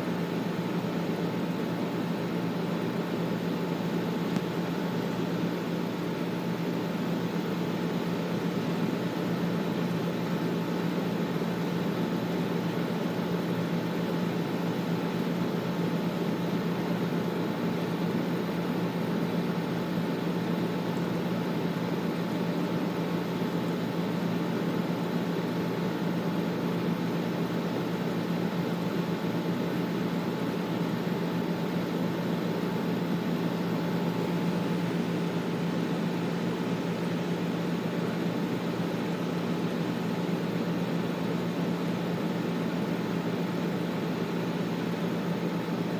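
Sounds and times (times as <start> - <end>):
air conditioner air rush: 0.0 - 45.9.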